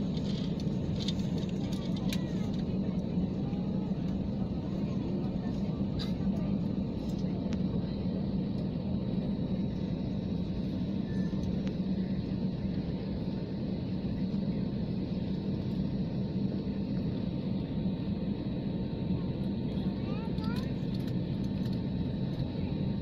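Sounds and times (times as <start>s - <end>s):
airliner cabin drone: 0.0s - 23.0s
faint steady whine: 0.0s - 23.0s.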